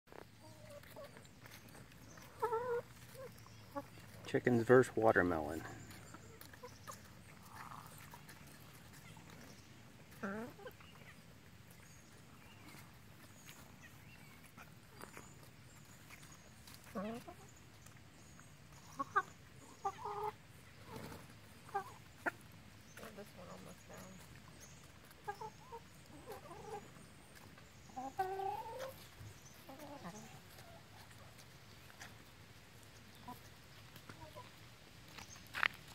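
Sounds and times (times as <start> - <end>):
chickens pecking: 0.1 - 35.9.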